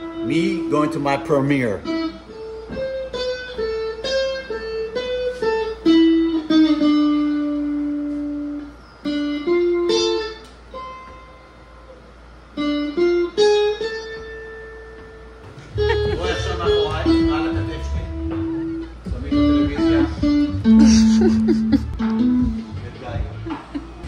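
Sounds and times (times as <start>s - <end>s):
plucked guitar melody: 0.0s - 12.0s, 12.6s - 24.0s.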